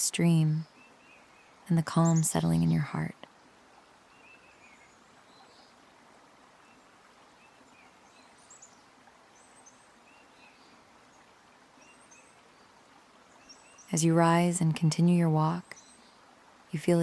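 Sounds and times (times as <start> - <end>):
stream water rushing: 0.7 - 17.0.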